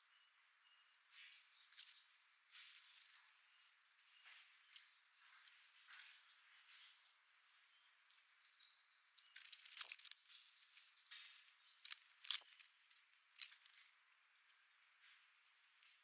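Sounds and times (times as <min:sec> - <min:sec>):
birds pecking and cracking seed: 0:00.5 - 0:16.0.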